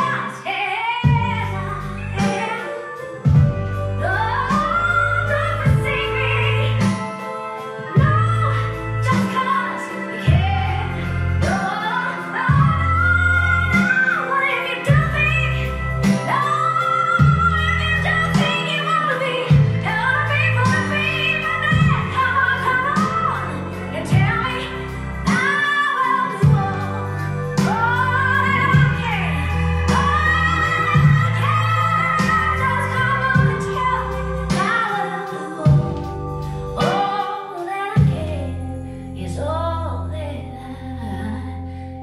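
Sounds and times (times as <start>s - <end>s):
woman singing: 0.0s - 42.0s
bass and steady beat: 1.0s - 37.3s, 38.0s - 41.6s.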